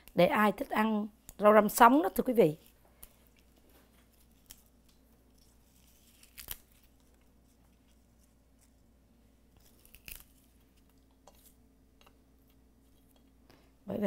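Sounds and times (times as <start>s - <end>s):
herbs rustling and snapping: 0.0s - 8.8s, 9.5s - 13.4s.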